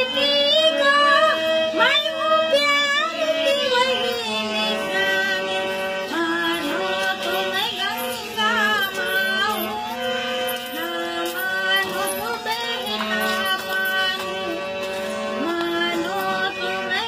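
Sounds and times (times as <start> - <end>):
elderly woman singing: 0.0 - 14.7, 15.3 - 17.0
harmonium chords: 0.0 - 17.0.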